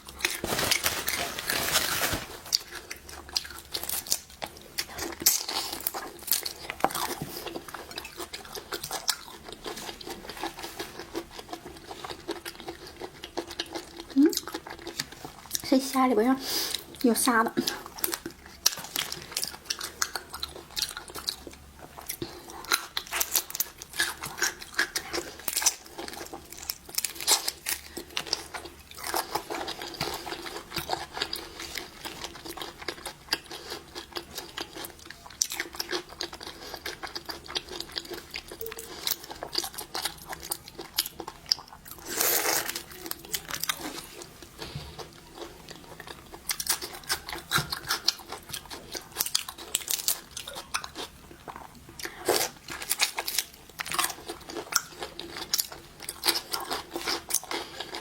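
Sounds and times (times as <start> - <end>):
shellfish crunching: 0.0 - 15.8, 16.6 - 58.0.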